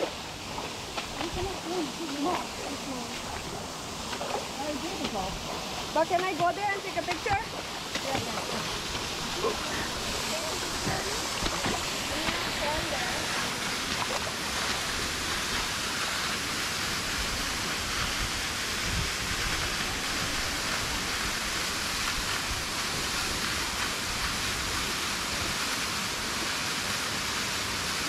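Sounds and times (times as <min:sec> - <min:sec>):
small waterfall splashing: 0:00.0 - 0:28.0.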